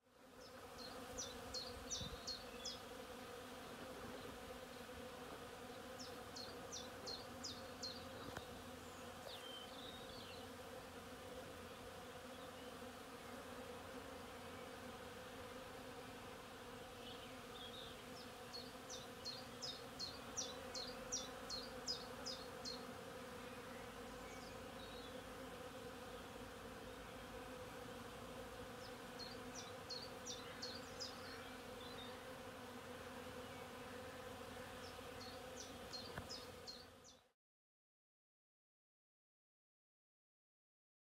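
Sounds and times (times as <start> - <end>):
honeybees buzzing: 0.1 - 37.2.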